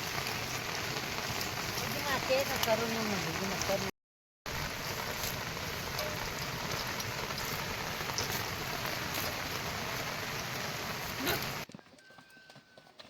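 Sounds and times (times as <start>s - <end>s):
heavy rain falling: 0.0s - 3.9s, 4.5s - 11.7s.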